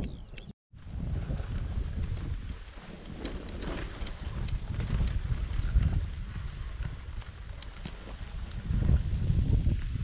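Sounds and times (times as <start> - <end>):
wind buffeting microphone: 0.0 - 10.0
bicycle tyres on gravel: 0.8 - 10.0
bike rattling and clicking: 1.0 - 10.0.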